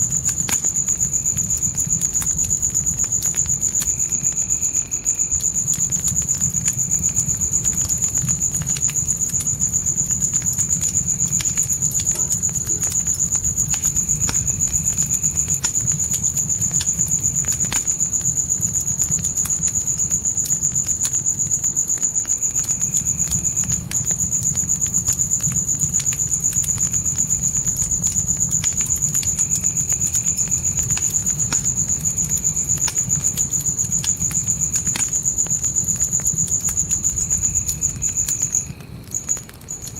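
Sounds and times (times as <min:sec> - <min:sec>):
campfire crackling and popping: 0:00.0 - 0:39.9
crickets chirping: 0:00.0 - 0:39.9
low rumble of flames: 0:00.0 - 0:39.9.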